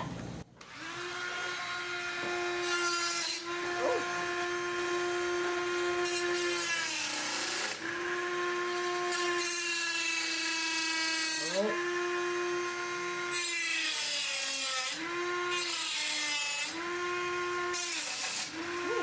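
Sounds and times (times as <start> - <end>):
rotary tool whining: 0.6 - 19.0.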